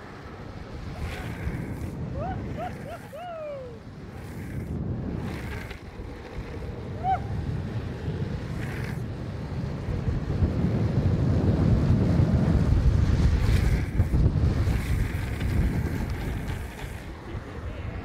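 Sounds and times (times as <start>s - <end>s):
wheels rolling on asphalt: 0.0s - 18.0s
wind rushing over microphone: 0.0s - 18.0s.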